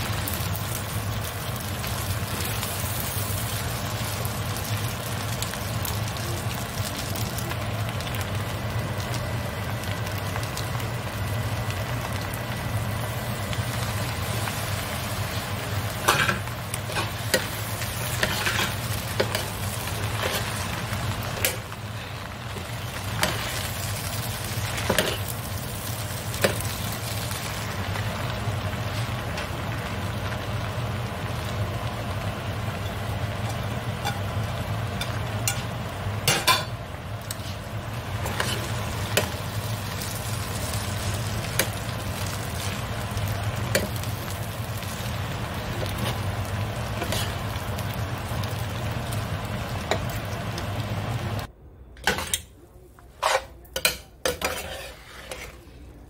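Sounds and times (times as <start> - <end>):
noodles sizzling in a pan: 0.0 - 56.0.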